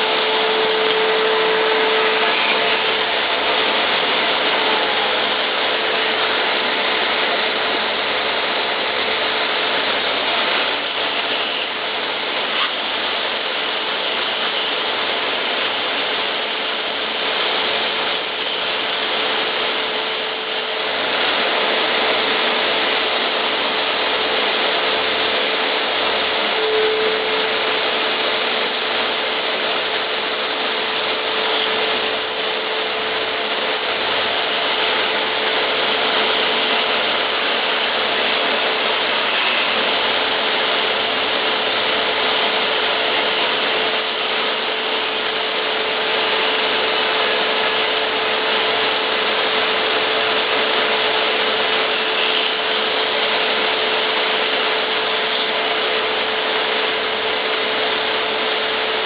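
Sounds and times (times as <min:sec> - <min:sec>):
power sander on wood: 0:00.0 - 0:59.0.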